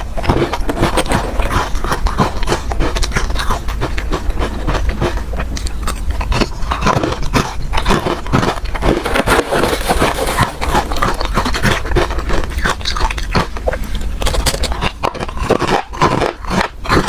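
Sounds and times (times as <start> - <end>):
ice crunching between teeth: 0.0 - 17.0.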